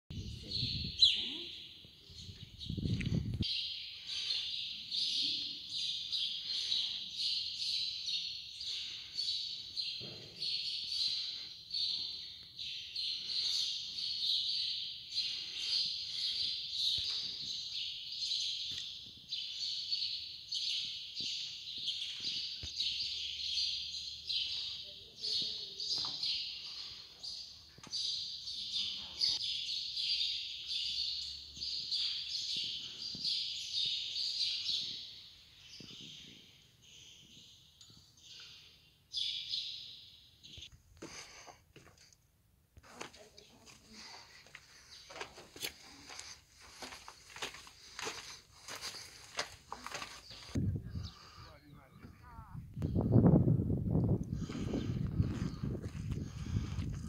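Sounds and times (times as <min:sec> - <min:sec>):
small birds chirping: 0:00.2 - 0:41.5, 0:42.9 - 0:53.3, 0:54.3 - 0:57.0.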